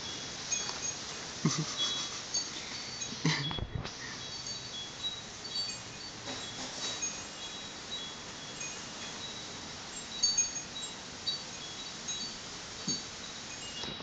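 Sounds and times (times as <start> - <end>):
high chime notes tinkling: 0.0 - 14.0.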